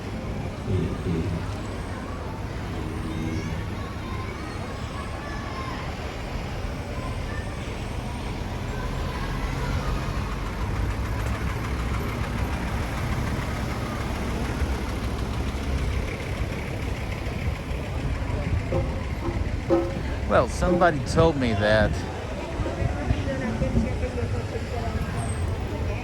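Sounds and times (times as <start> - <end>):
street noise: 0.0 - 26.0
vehicle engine rumbling: 0.0 - 26.0.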